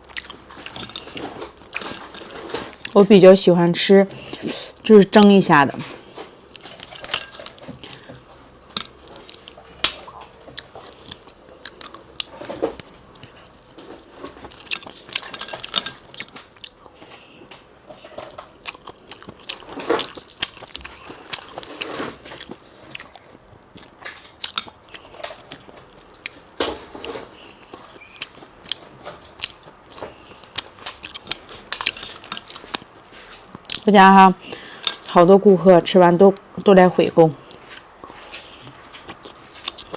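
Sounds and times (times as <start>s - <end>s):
chewing shellfish: 0.0s - 3.1s, 5.2s - 35.2s, 37.4s - 39.9s.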